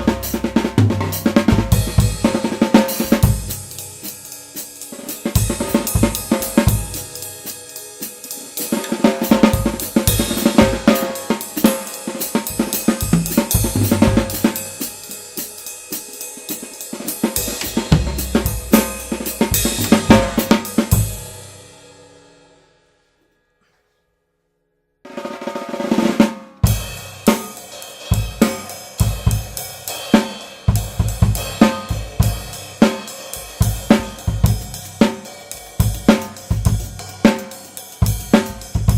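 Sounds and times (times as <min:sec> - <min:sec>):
drum kit playing a beat: 0:00.0 - 0:22.0, 0:25.2 - 0:38.9
drum kit ringing out: 0:00.0 - 0:22.3, 0:25.1 - 0:38.9.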